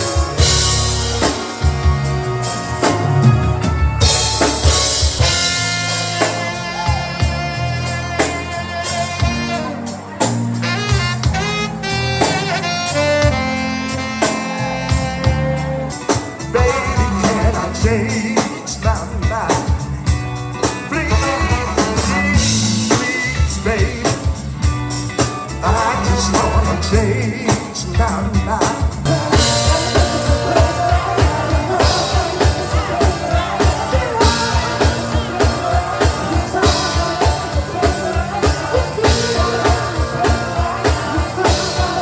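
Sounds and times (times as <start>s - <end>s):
band music: 0.0s - 42.0s
drum kit beat: 0.0s - 42.0s
lead singer singing: 0.0s - 42.0s.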